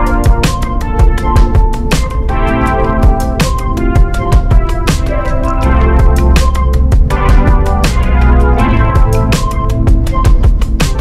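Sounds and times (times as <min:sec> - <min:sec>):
electronic drum beat: 0:00.0 - 0:11.0
sustained keyboard chords: 0:00.0 - 0:11.0.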